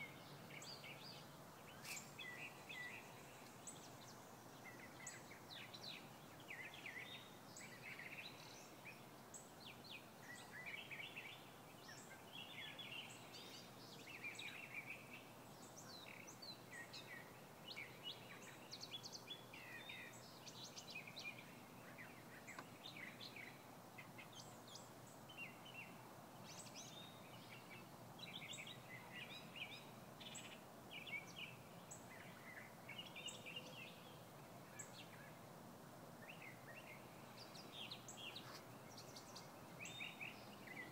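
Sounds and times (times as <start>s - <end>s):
songbirds singing: 0.0s - 40.9s
steady low background noise: 0.0s - 40.9s.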